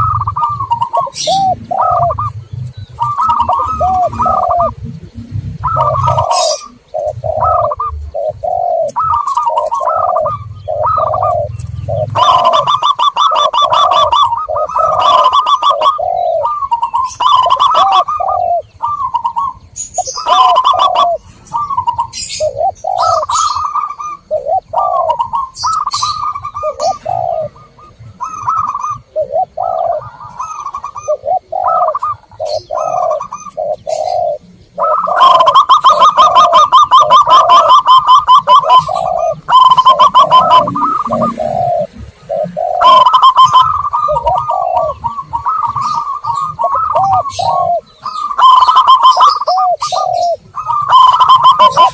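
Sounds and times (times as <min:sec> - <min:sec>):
doves cooing: 0:00.0 - 0:51.9
high bird chirps: 0:00.0 - 0:51.9.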